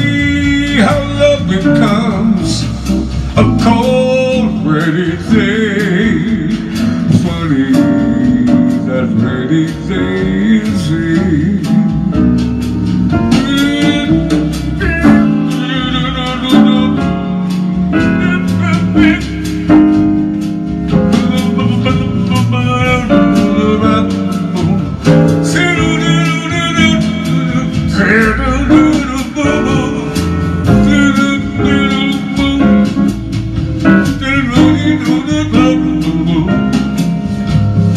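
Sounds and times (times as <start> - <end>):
slow ballad backing track: 0.0 - 37.9.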